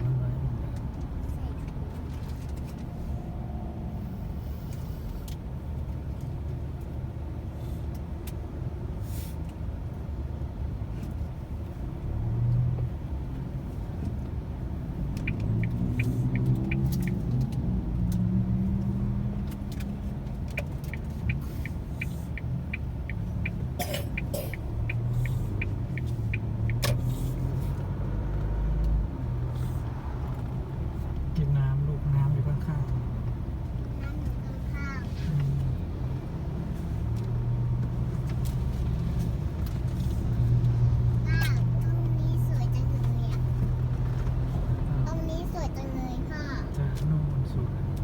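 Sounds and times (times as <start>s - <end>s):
road and engine rumble in car: 0.0s - 48.0s.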